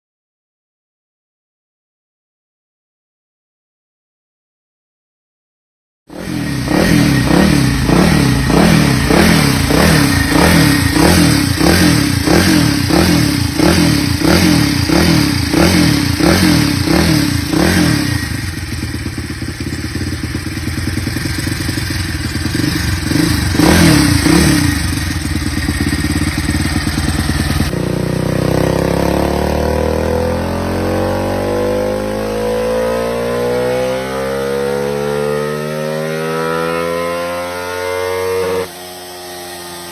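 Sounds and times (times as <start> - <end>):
motorcycle engine revving: 6.1 - 39.9.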